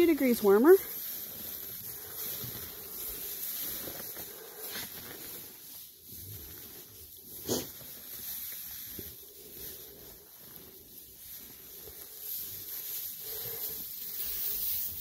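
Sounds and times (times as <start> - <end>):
footsteps rustling through straw: 0.0 - 15.0.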